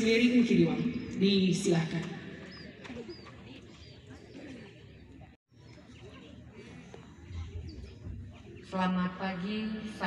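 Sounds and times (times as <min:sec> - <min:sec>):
crowd hum: 0:01.9 - 0:10.0.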